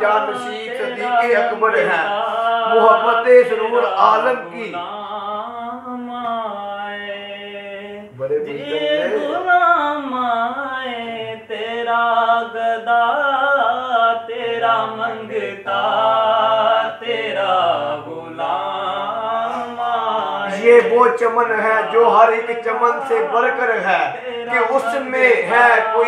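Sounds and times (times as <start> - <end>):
man singing: 0.0 - 26.0.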